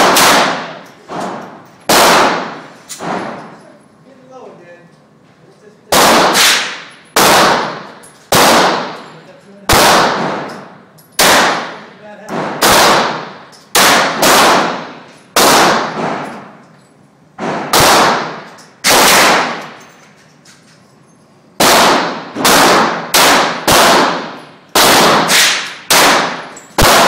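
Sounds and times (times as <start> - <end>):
pistol shots echoing indoors: 0.0 - 3.6, 5.9 - 9.1, 9.7 - 16.6, 17.3 - 20.0, 21.6 - 27.0.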